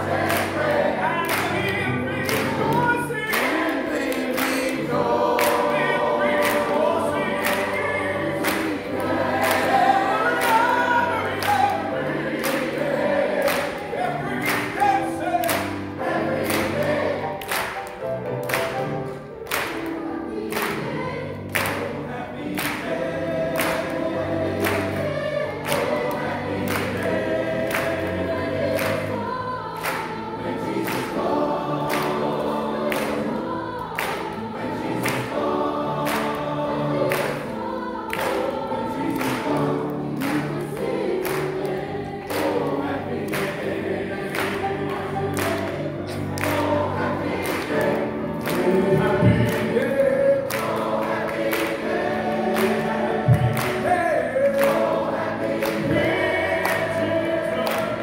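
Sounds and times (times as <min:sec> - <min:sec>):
choir singing gospel song: 0:00.0 - 0:58.0
congregation clapping on the beat: 0:00.0 - 0:58.0.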